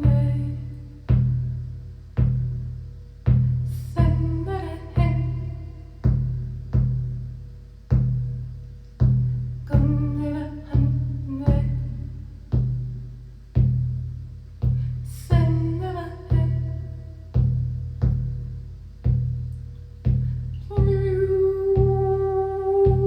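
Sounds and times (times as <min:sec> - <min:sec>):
hand drum booming strokes: 0:00.0 - 0:23.0.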